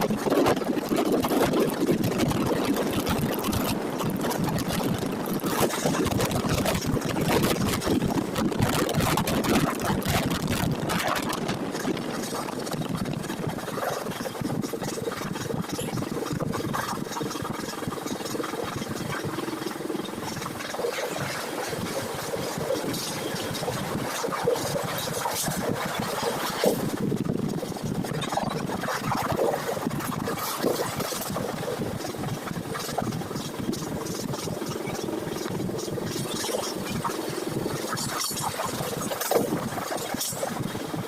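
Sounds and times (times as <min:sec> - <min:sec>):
rattling and clatter: 0:00.0 - 0:41.0.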